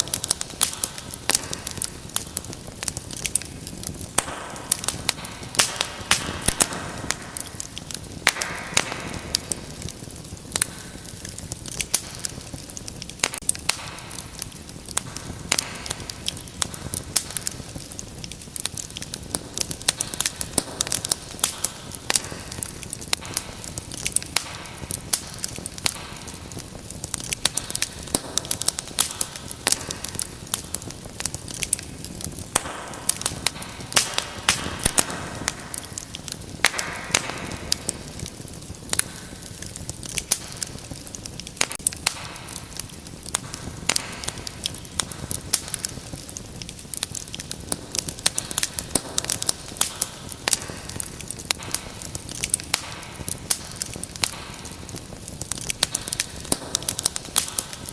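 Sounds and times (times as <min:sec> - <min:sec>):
fire crackling and popping: 0:00.0 - 0:57.9
hiss of burning: 0:00.0 - 0:57.9.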